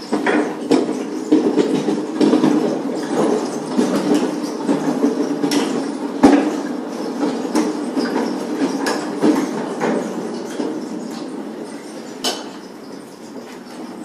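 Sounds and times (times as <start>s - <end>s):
pallet jack wheels rumbling: 0.0s - 14.0s.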